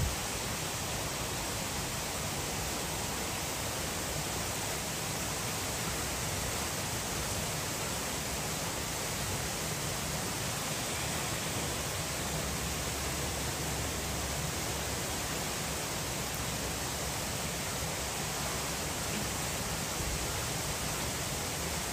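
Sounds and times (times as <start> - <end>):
hiss of falling water: 0.0 - 21.9.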